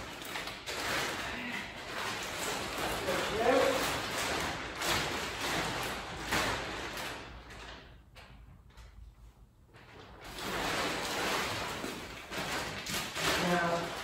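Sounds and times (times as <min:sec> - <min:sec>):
plastic sheeting rustling: 0:00.0 - 0:08.4, 0:09.5 - 0:14.0.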